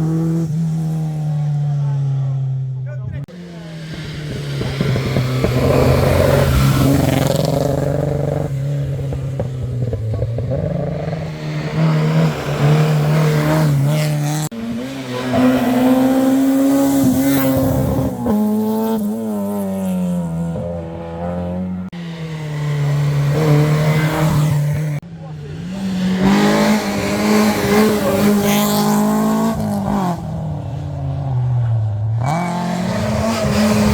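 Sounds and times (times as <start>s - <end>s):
rally car engines revving: 0.0s - 33.9s
tyre noise: 2.9s - 33.9s.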